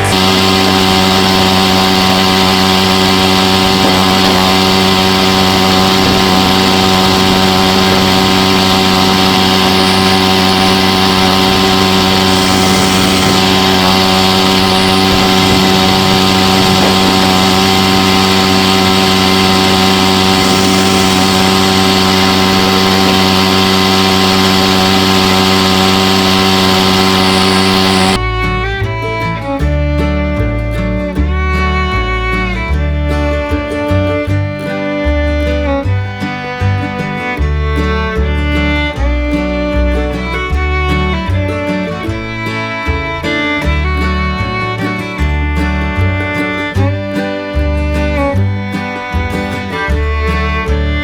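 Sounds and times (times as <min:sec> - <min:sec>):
walk-behind tractor engine running: 0:00.0 - 0:51.0.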